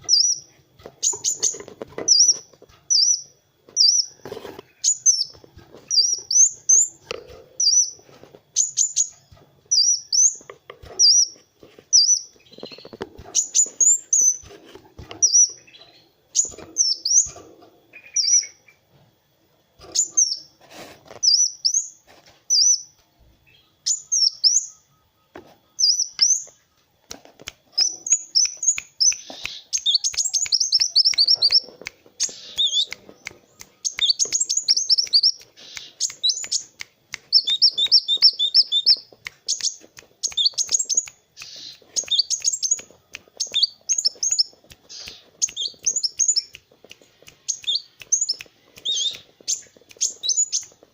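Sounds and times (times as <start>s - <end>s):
bird chirping and trilling: 0.1s - 4.2s, 4.8s - 7.0s, 7.6s - 8.0s, 8.6s - 14.5s, 15.2s - 18.8s, 19.9s - 20.5s, 21.2s - 26.6s, 27.8s - 46.6s, 47.4s - 50.8s.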